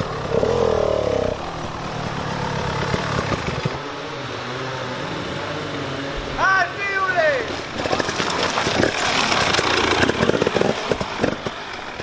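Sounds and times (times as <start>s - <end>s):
dirt bike engine revving: 0.0s - 6.4s, 7.4s - 12.0s.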